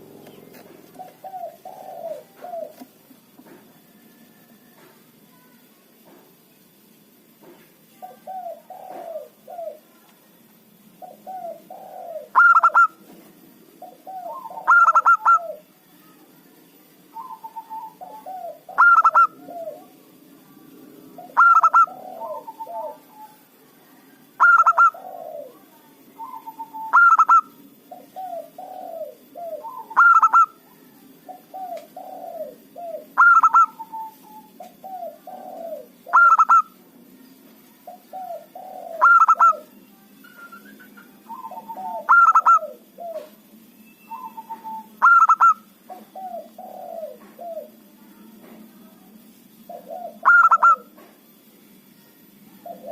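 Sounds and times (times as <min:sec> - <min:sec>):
dove cooing song: 0:00.0 - 0:04.9, 0:08.0 - 0:09.9, 0:11.0 - 0:15.7, 0:17.1 - 0:23.6, 0:24.3 - 0:36.8, 0:37.8 - 0:47.9, 0:49.6 - 0:51.4, 0:52.6 - 0:52.9.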